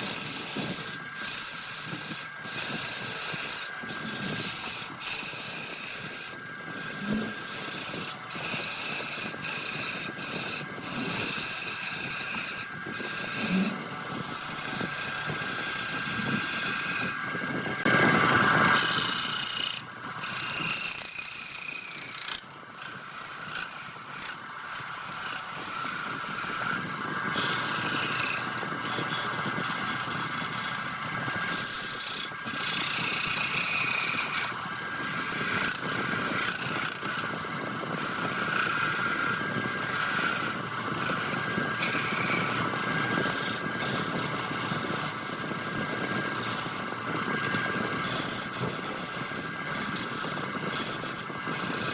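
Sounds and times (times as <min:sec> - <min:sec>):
tool scraping spinning wood: 0:00.0 - 0:51.9
wood lathe humming: 0:00.0 - 0:51.9.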